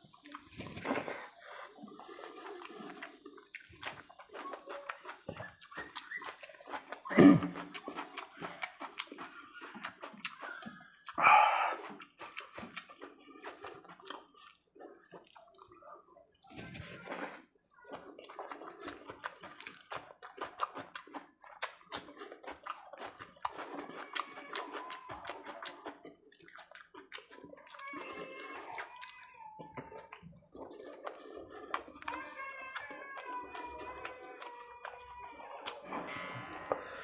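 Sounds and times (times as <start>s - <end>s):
chewing and mouth smacks: 0.0s - 37.0s
wet squishing of food mixed by hand: 0.0s - 37.0s.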